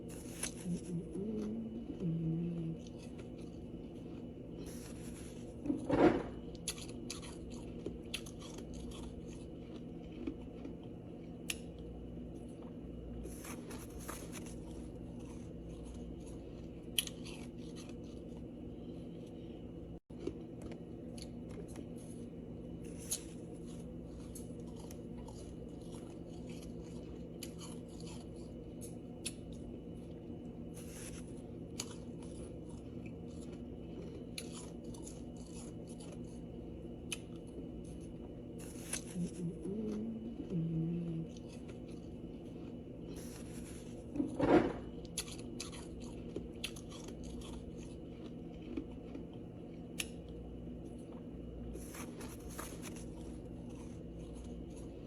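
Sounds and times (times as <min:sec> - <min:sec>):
ice being chewed: 0:00.0 - 0:18.5, 0:20.1 - 0:55.0
steady low hum: 0:00.0 - 0:55.0.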